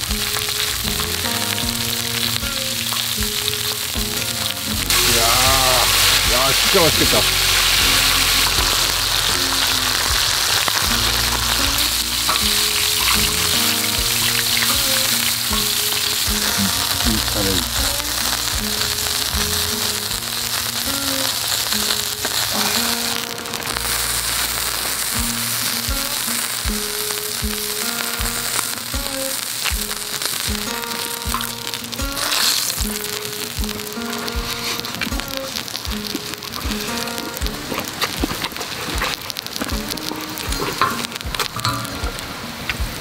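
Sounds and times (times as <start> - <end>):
meat sizzling on a griddle: 0.0 - 43.0
soft background music: 0.0 - 43.0.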